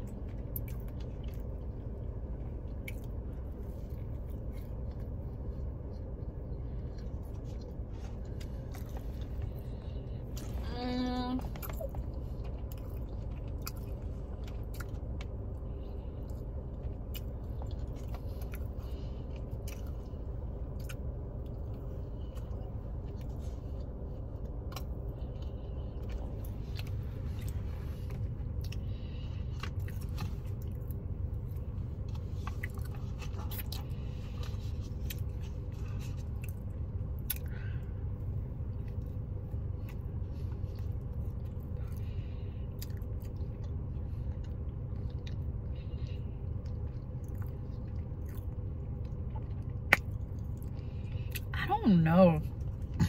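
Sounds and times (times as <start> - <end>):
person chewing soft biscuit: 0.0 - 51.6
low hum inside car: 0.0 - 53.0.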